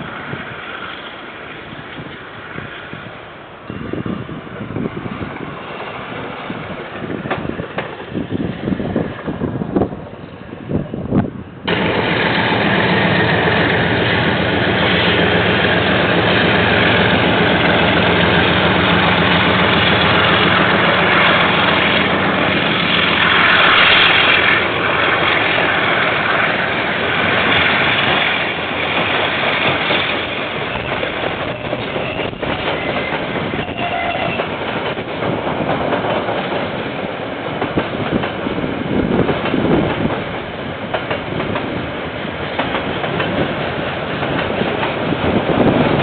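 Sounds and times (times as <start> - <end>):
train wheels rolling: 0.0 - 46.0.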